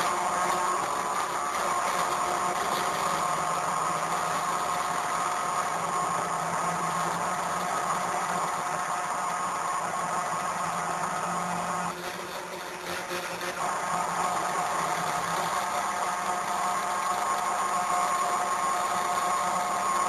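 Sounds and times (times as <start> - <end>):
machine hum: 0.0 - 20.0
stepper motors whining: 0.0 - 20.0.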